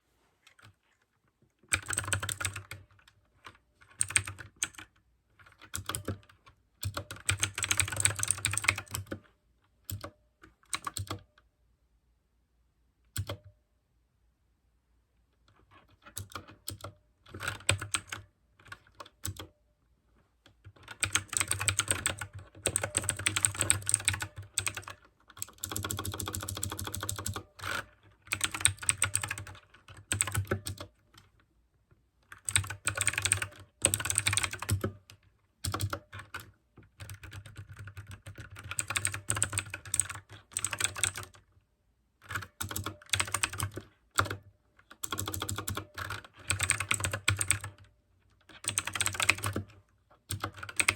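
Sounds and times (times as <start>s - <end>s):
clicky mechanical keyboard typing: 1.7s - 11.4s, 13.1s - 13.6s, 15.9s - 19.6s, 20.7s - 31.3s, 32.2s - 41.4s, 42.2s - 50.9s.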